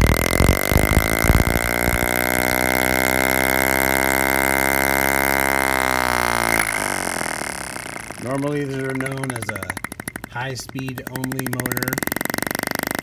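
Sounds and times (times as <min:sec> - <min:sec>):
model engine buzzing: 0:00.0 - 0:13.0
thin high whine: 0:00.0 - 0:13.0.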